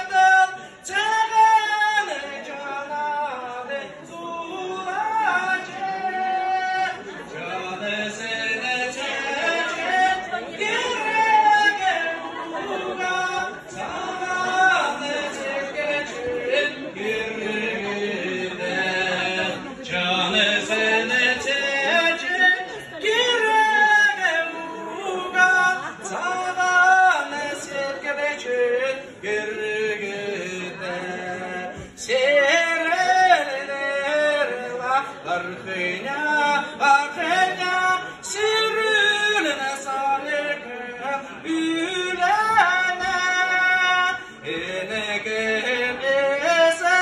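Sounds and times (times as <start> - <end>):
man singing into a microphone: 0.0 - 47.0.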